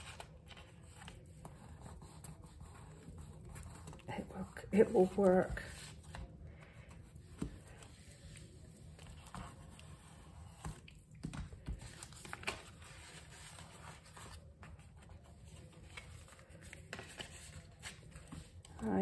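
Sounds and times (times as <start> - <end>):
paper and card rustling: 0.0 - 19.0.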